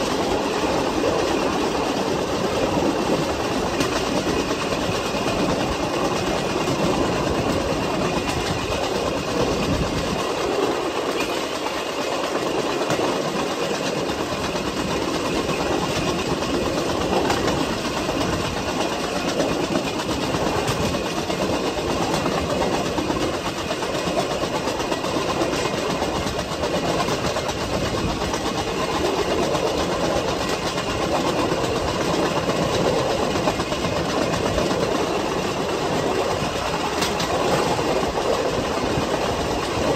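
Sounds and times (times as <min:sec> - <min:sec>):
steel wheels rumbling on rails: 0:00.0 - 0:39.9
wheels clacking over rail joints: 0:00.0 - 0:39.9.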